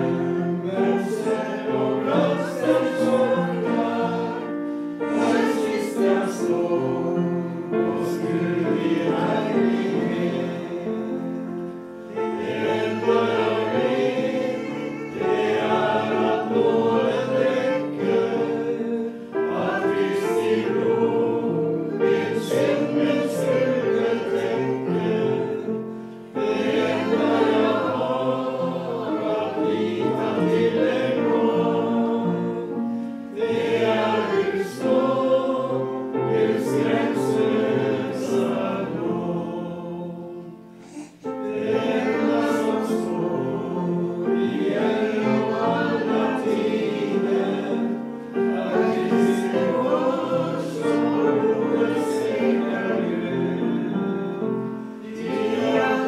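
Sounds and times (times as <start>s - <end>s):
choir singing a hymn: 0.0s - 56.0s
piano accompaniment: 0.0s - 56.0s.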